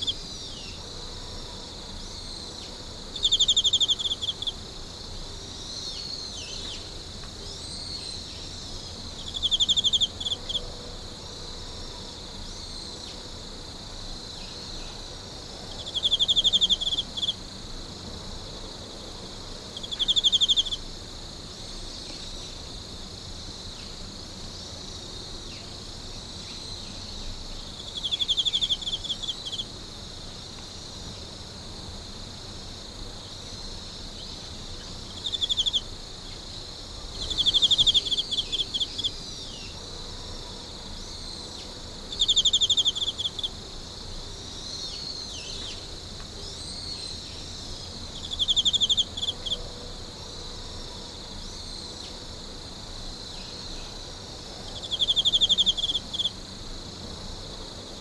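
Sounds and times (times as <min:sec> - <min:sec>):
faint insect chirps: 0:00.0 - 0:58.0
insects humming: 0:00.0 - 0:58.0
rapid pulsing insect trill: 0:00.0 - 0:58.0.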